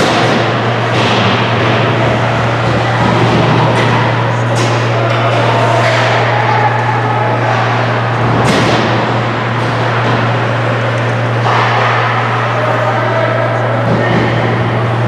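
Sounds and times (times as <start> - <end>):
ice hockey play noise: 0.0 - 15.0
steady low hum: 0.0 - 15.0.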